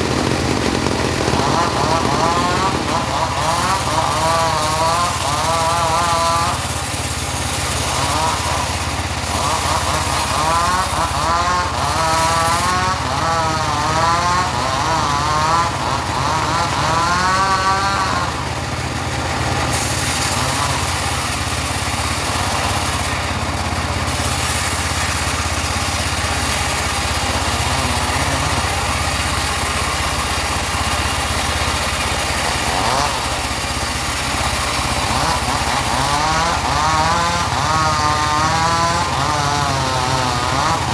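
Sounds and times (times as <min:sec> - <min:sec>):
sawmill engine hum: 0:00.0 - 0:40.9
wavering saw whine: 0:00.0 - 0:40.9.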